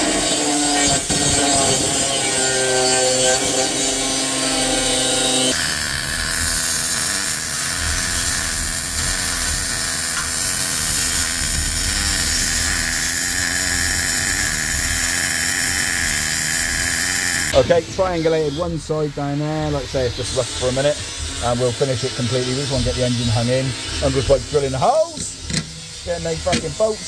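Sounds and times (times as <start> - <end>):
angle grinder cutting steel: 0.0 - 18.7, 19.3 - 27.0
welder crackling and hissing: 0.0 - 27.0.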